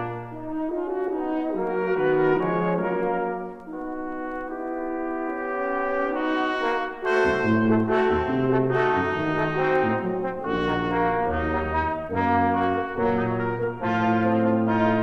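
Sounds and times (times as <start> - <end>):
brass background music: 0.0 - 15.0.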